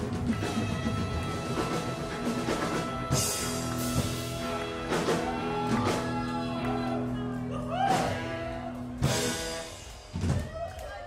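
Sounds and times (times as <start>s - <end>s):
upright double bass: 0.0s - 9.6s
electric guitar: 0.0s - 10.6s
drum kit: 0.0s - 11.0s.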